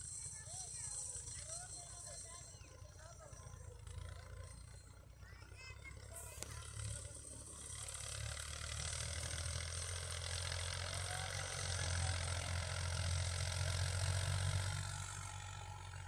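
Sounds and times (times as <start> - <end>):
diesel machinery engine running: 0.0 - 16.0.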